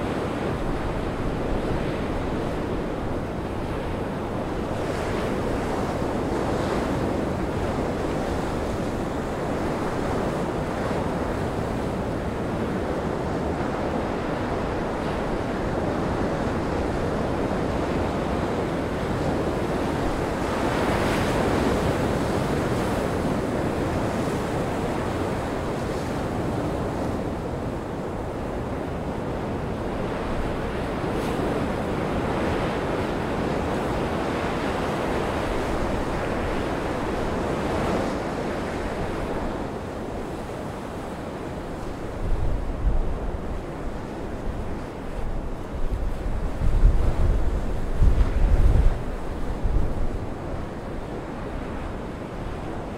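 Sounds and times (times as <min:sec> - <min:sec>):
wind: 0:00.0 - 0:52.9
wind buffeting microphone: 0:00.0 - 0:52.9.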